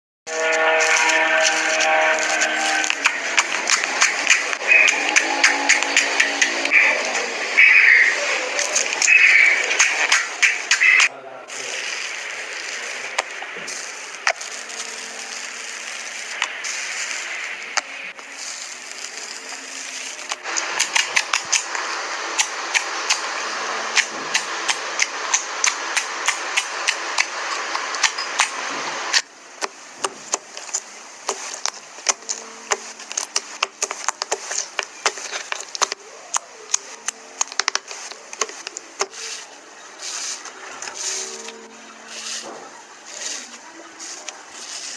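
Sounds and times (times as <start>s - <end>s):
steady hiss: 0.3s - 44.9s.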